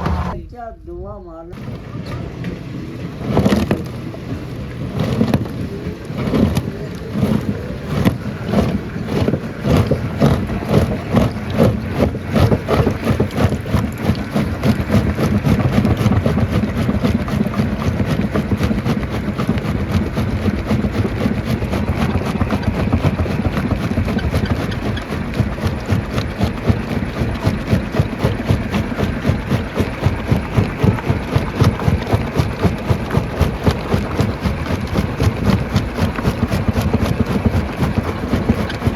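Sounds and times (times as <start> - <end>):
rock crusher rumbling: 0.0 - 38.9.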